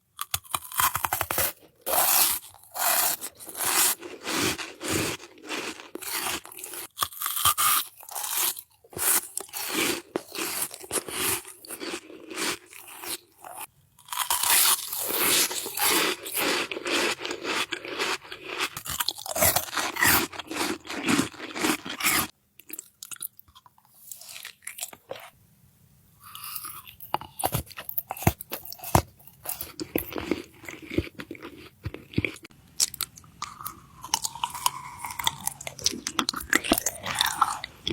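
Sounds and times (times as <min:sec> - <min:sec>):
crunchy eating and chewing: 0:00.1 - 0:25.4, 0:26.2 - 0:37.9.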